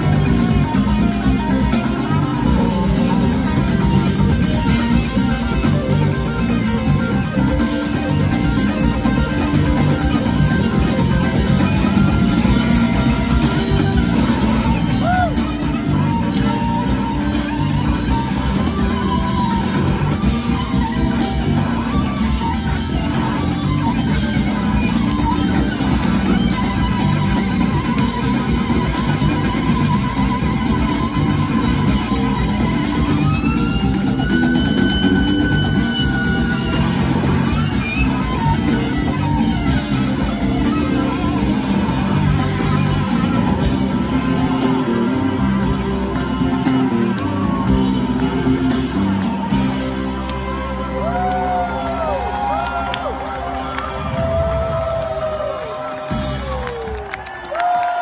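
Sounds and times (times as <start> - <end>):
electric guitar lead lines: 0.0 - 56.8
live rock band playing: 0.0 - 58.0.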